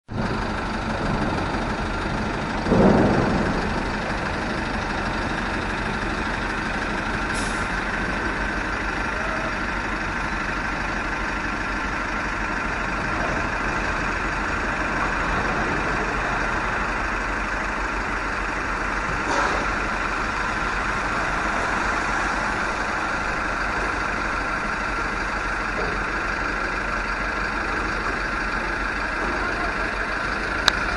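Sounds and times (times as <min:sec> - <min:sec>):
city street traffic: 0:00.0 - 0:30.9
low rumble: 0:00.1 - 0:25.6.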